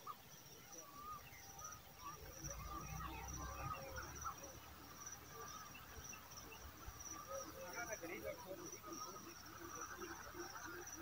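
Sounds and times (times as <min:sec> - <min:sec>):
bird chirps: 0:00.0 - 0:11.0
pulsing insect trill: 0:00.0 - 0:11.0.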